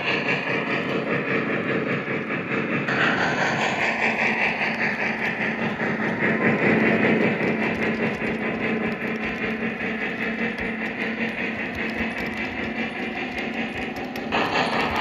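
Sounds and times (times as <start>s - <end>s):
model train rumbling past: 0.0s - 15.0s.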